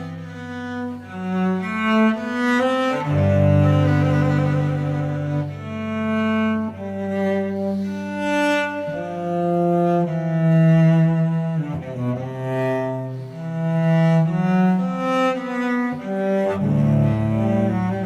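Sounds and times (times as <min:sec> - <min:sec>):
slow string music with cello: 0:00.0 - 0:18.0.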